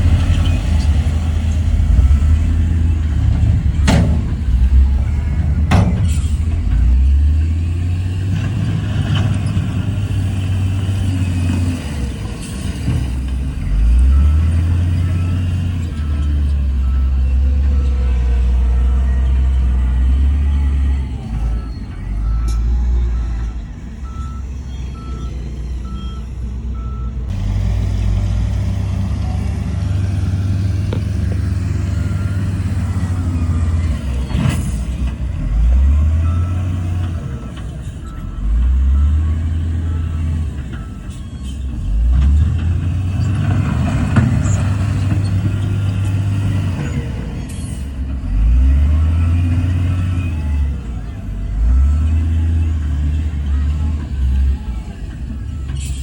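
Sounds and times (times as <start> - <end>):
reversing beeper: 0.0 - 27.6, 28.9 - 56.0
heavy diesel engines revving: 0.0 - 56.0.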